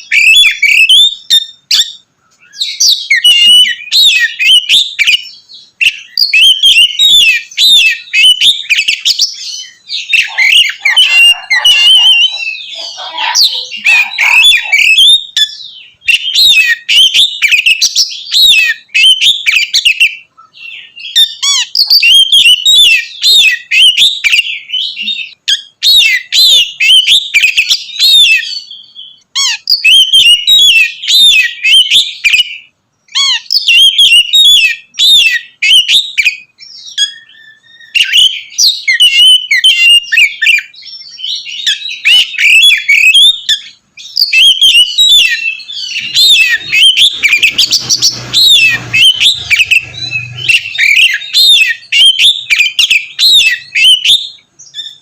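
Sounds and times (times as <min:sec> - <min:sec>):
magpie-robin singing: 0:00.0 - 0:55.0.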